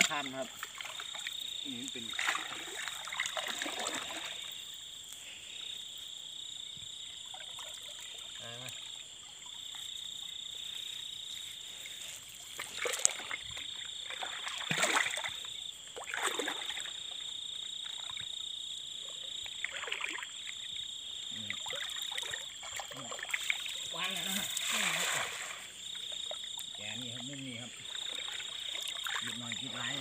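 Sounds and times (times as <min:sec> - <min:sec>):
water splashing from wading: 0:00.0 - 0:04.9, 0:07.2 - 0:10.3, 0:11.8 - 0:18.4, 0:19.2 - 0:20.7, 0:21.3 - 0:30.0
frogs chorus: 0:00.0 - 0:30.0.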